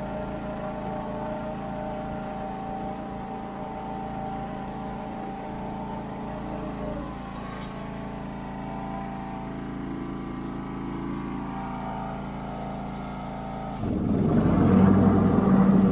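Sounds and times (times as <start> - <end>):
lawn tractor engine running: 0.0 - 15.9.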